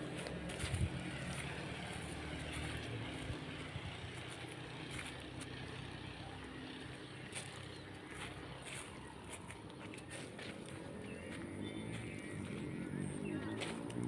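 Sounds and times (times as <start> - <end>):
motor engine humming: 0.0 - 14.0.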